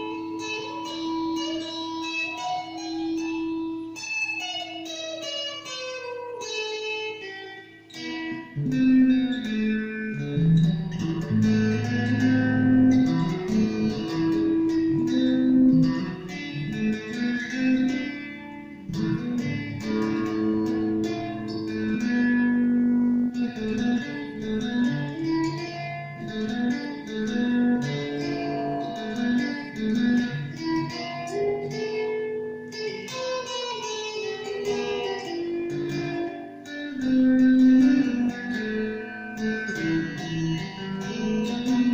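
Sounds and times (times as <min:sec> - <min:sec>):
electric guitar notes and chords: 0:00.0 - 0:41.9.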